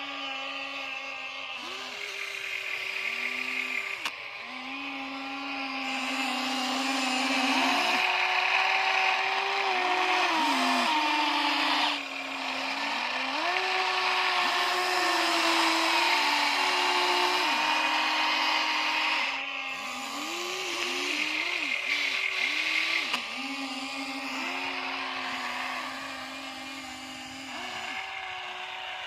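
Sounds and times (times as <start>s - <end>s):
electric gear motors whining: 0.0s - 29.0s.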